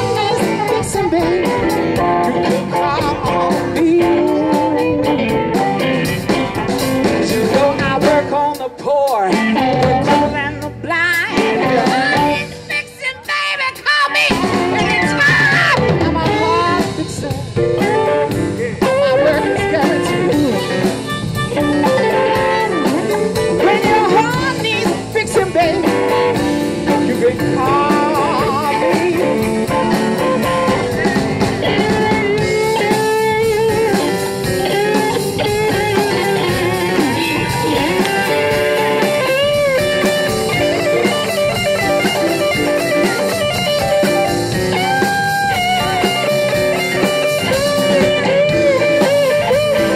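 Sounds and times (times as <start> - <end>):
drum kit: 0.0 - 49.9
electric guitar: 0.0 - 49.9
keyboard: 0.0 - 49.9.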